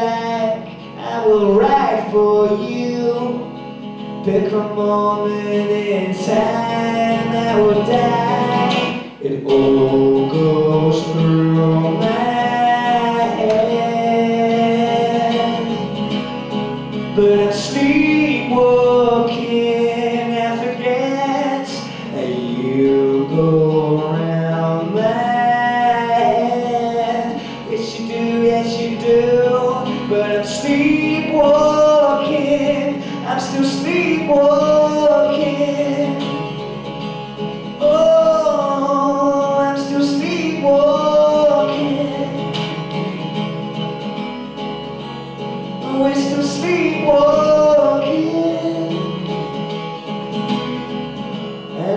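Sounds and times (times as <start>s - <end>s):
man singing slow song: 0.0s - 16.0s, 17.0s - 36.7s, 37.6s - 43.0s, 45.8s - 49.4s
acoustic guitar: 0.0s - 51.9s.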